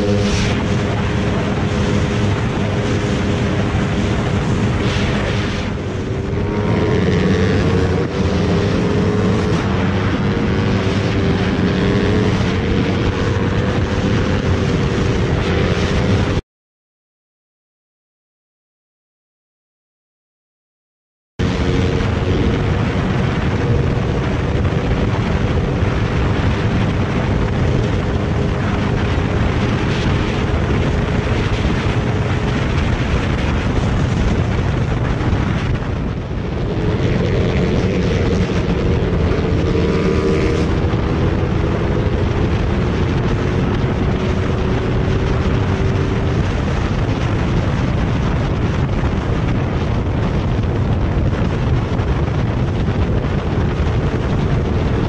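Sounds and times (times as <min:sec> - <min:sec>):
motorcycle engine drone: 0:00.0 - 0:16.4, 0:21.4 - 0:55.0
wind rushing on microphone: 0:00.0 - 0:16.4, 0:21.4 - 0:55.0.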